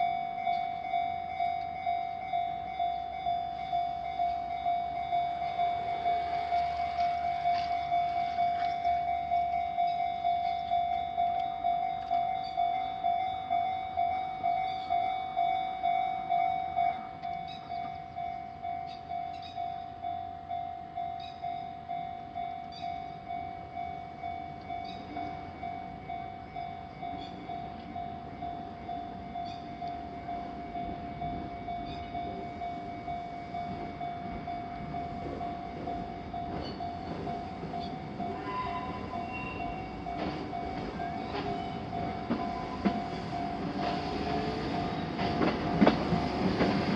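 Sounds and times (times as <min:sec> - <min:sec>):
train wheel clicks: 0:00.0 - 0:19.9, 0:21.2 - 0:46.9
approaching train rumble: 0:00.0 - 0:46.9
level-crossing bell clanging: 0:00.0 - 0:46.9.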